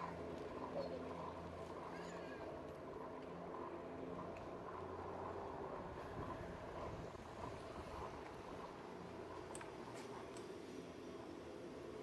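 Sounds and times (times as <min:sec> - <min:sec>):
electric bike rumble on pavement: 0:00.0 - 0:12.0.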